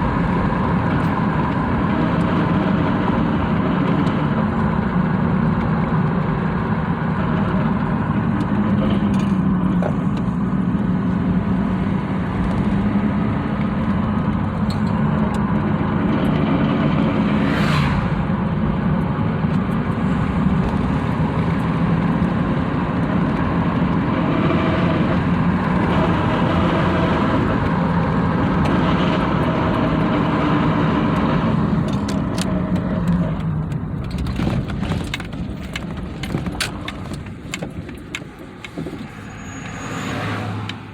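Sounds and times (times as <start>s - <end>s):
engine and drivetrain drone: 0.0s - 40.9s.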